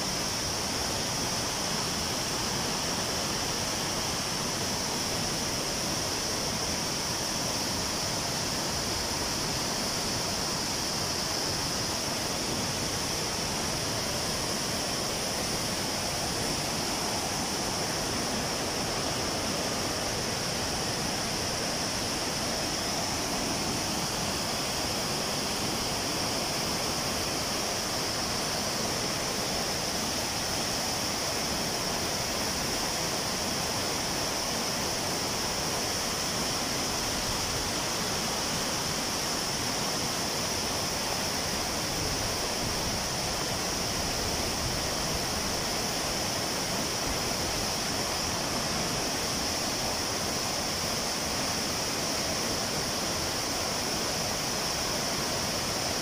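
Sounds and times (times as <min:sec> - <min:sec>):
waterfall rushing onto rocks: 0:00.0 - 0:56.0.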